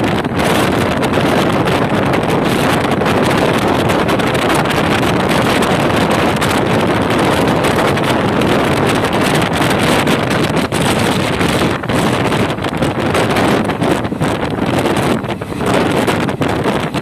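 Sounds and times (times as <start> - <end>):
fast-moving train rumble: 0.0 - 17.0
wind buffeting microphone: 0.0 - 17.0.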